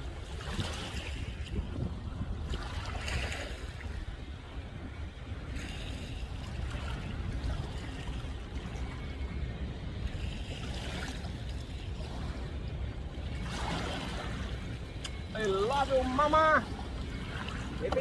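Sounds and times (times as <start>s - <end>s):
water lapping at shore: 0.0s - 18.0s
wind on microphone: 0.0s - 18.0s.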